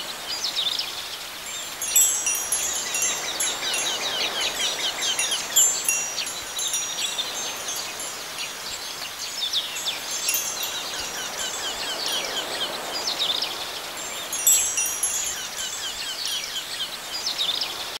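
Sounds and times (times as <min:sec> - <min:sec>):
wind chimes tinkling: 0:01.4 - 0:17.0.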